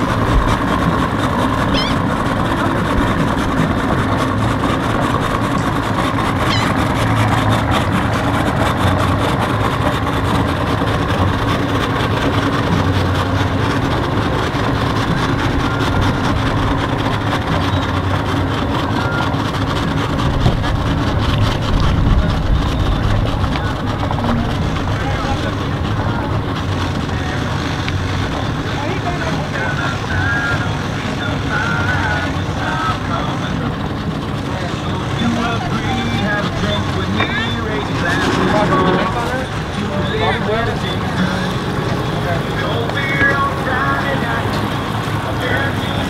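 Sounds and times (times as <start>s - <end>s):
outboard motor idling: 0.0s - 46.0s.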